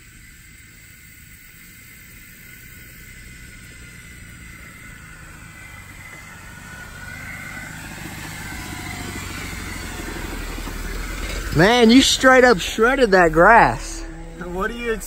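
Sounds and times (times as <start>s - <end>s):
vehicle engine and tyre hum: 0.0s - 15.0s.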